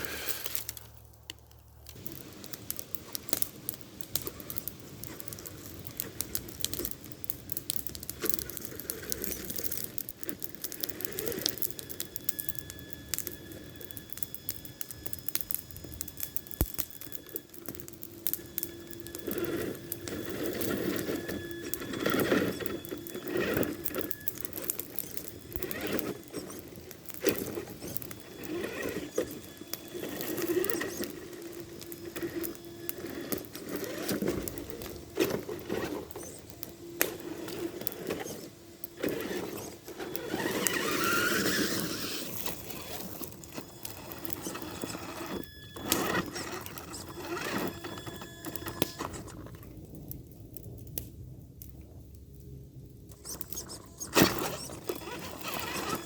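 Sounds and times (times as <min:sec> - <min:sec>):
toy truck motor whining: 0:00.0 - 0:01.0, 0:04.0 - 0:49.6, 0:53.1 - 0:56.0.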